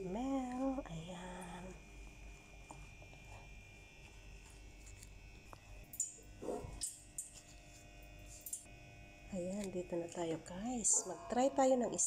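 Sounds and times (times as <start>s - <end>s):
faint electrical buzz: 0.0s - 12.0s.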